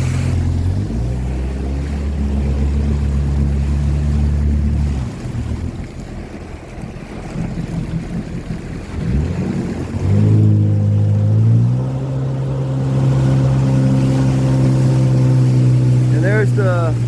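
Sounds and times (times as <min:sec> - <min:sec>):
motorboat engine: 0:00.0 - 0:17.0
rush of wind and water: 0:00.0 - 0:17.0.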